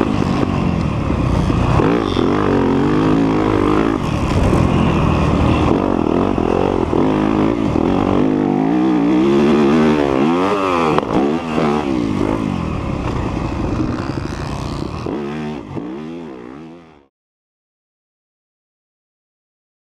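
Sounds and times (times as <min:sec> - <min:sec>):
dirt bike engine revving: 0:00.0 - 0:17.1.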